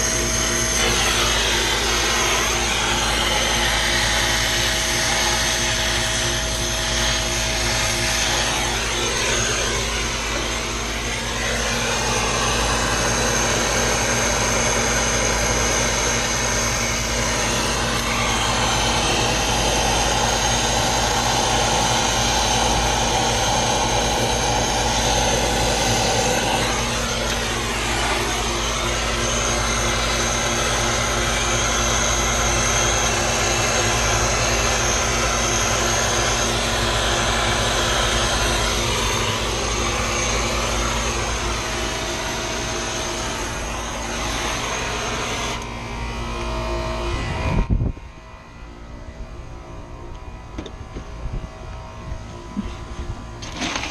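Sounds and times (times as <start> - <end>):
machine droning: 0.0 - 53.9.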